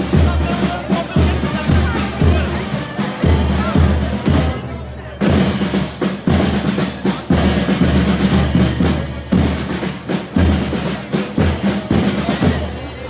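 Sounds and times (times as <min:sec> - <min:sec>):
heavy drum beat: 0:00.0 - 0:13.0.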